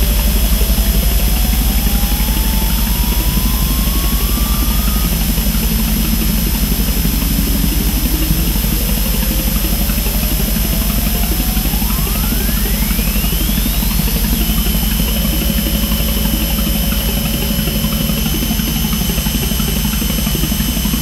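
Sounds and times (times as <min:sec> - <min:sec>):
gliding synthesizer tones: 0:00.0 - 0:21.0
pulsing low electronic drone: 0:00.0 - 0:21.0.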